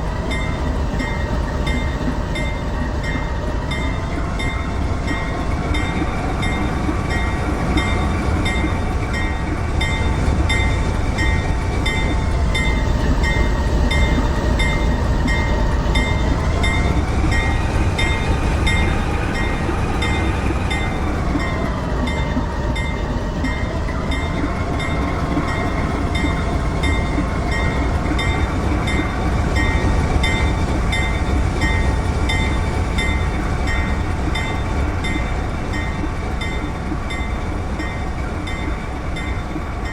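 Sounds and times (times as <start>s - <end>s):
train rumbling: 0.0s - 39.9s
whining tone: 0.0s - 39.9s.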